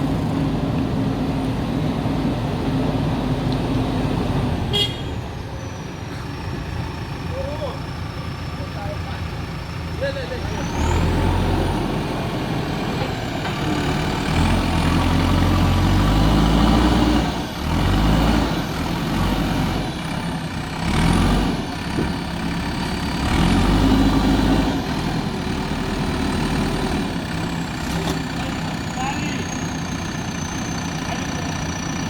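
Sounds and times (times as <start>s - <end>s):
diesel engine revving: 0.0s - 32.0s.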